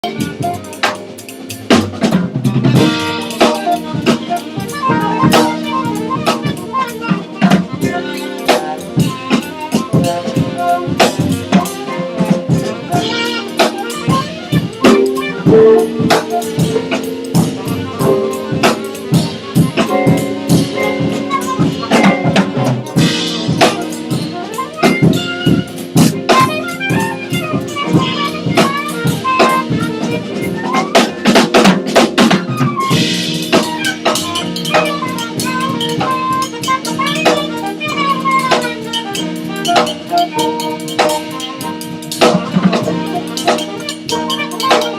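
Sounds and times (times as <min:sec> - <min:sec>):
drum kit: 0:00.0 - 0:44.9
small jazz ensemble playing: 0:00.0 - 0:44.9.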